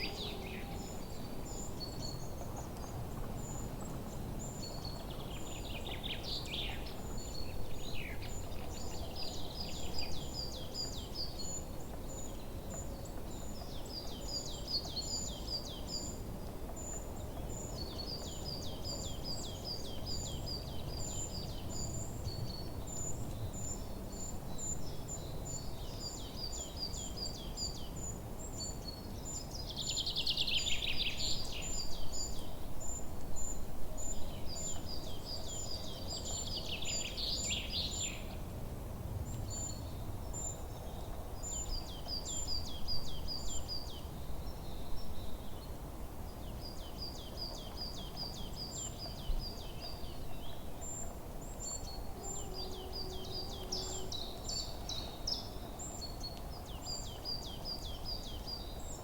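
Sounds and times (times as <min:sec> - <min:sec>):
low steady background hiss: 0:00.0 - 0:59.0.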